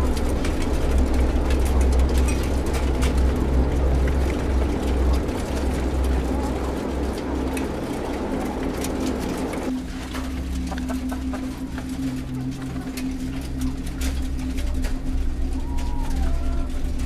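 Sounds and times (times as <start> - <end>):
hens calling and clicking: 0.0 - 17.0
low mechanical hum: 0.0 - 17.0.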